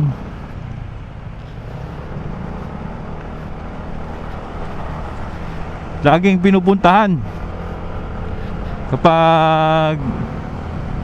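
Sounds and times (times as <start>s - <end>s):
motor scooter running: 0.0s - 11.0s
wind and road noise: 0.0s - 11.0s.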